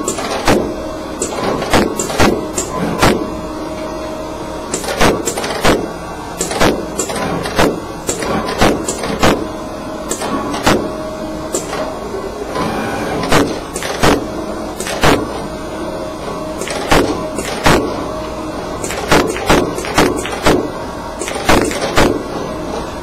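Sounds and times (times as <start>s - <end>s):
machine motor whine: 0.0s - 23.0s.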